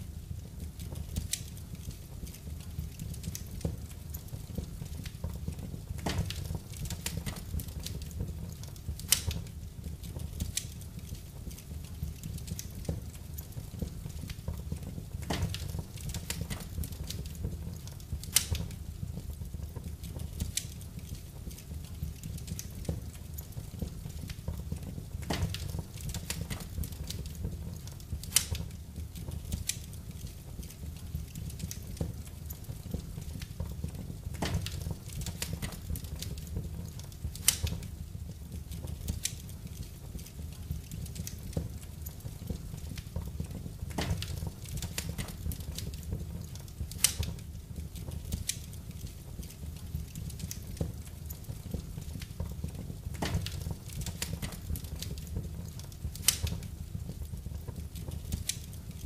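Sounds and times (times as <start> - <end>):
fire crackles and pops: 0.0 - 59.0
low rumble of flames: 0.0 - 59.0.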